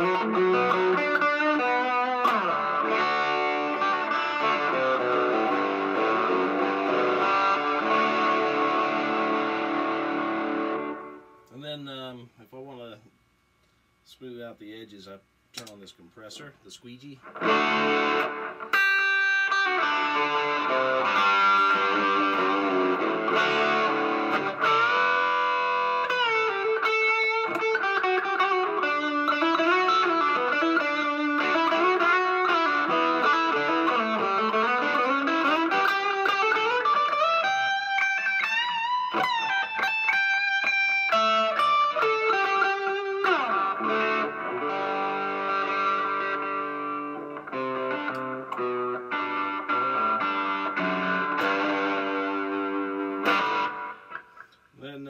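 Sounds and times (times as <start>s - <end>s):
electric guitar lead with bends: 0.0s - 11.4s, 17.2s - 54.6s.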